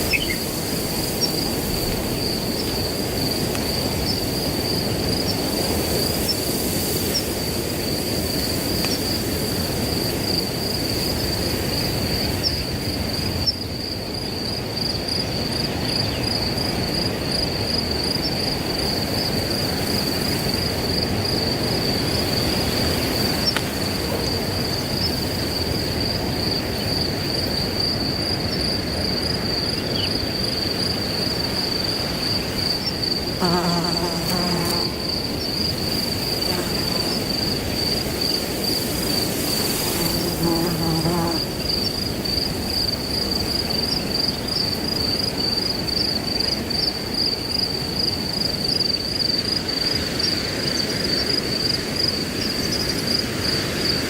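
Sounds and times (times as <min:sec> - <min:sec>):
crickets trilling: 0:00.0 - 0:54.0
wind through grass: 0:00.0 - 0:54.0.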